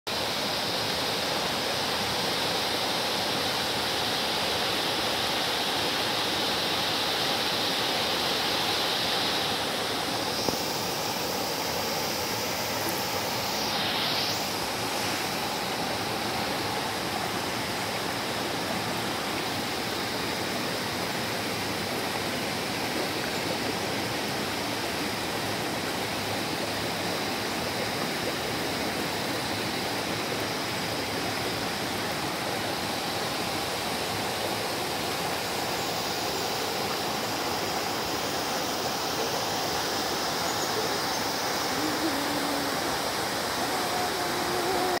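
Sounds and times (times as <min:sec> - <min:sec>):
stream rushing over stones: 0:00.1 - 0:45.0.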